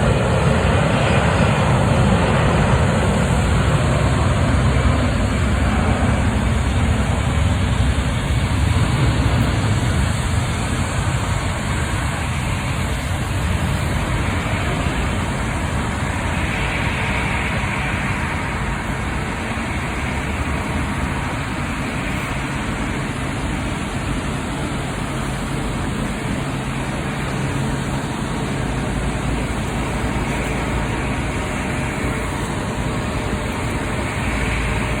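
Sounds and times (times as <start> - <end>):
jet engines at takeoff thrust: 0.0 - 35.0.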